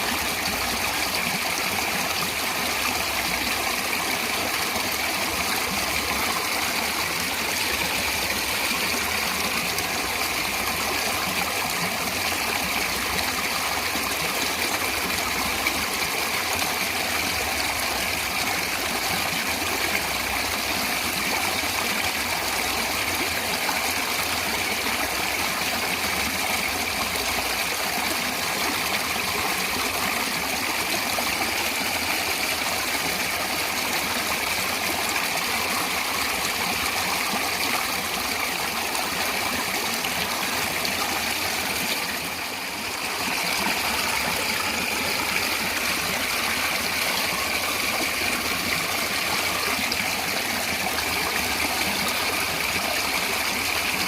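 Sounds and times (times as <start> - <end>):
stream of flowing water: 0.0 - 54.0.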